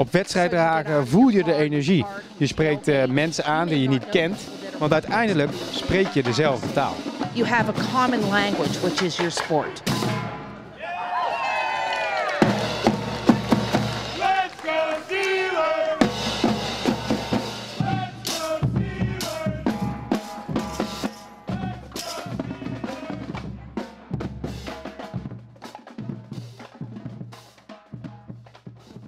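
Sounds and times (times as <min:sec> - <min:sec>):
marching drumline playing: 0:00.4 - 0:29.0.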